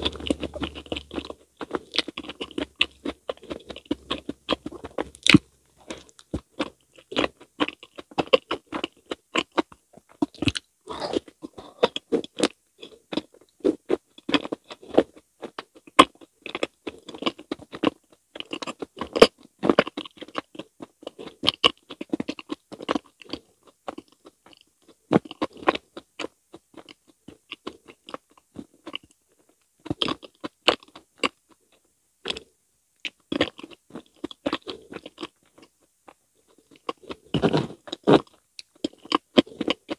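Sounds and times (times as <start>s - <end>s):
mouth clicks and smacks chewing: 0.0s - 39.9s.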